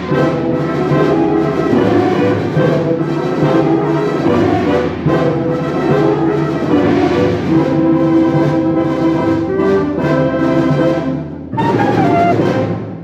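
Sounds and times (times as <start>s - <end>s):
wind band playing held chords: 0.0s - 13.0s.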